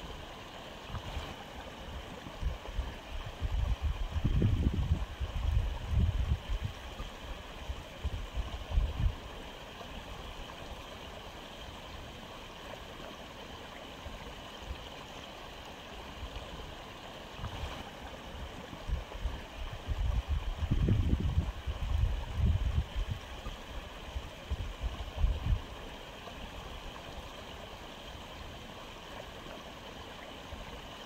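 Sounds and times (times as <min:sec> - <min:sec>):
aquarium filter water flow: 0:00.0 - 0:31.0.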